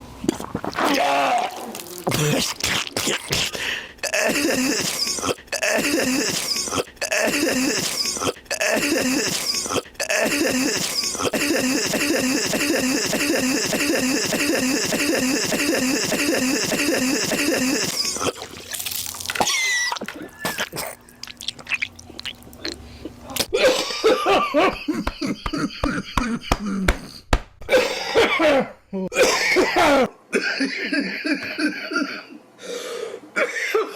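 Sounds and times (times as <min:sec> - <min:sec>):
looped coughing: 0:02.0 - 0:18.6, 0:20.0 - 0:21.1, 0:22.6 - 0:32.4, 0:33.4 - 0:33.9.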